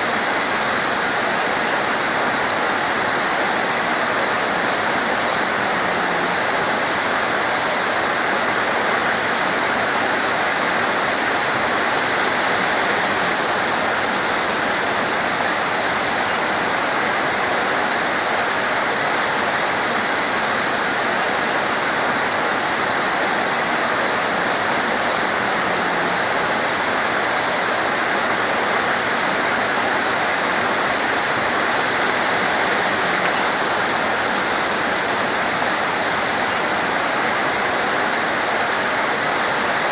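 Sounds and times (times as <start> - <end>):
heavy torrential rain: 0.0 - 39.9.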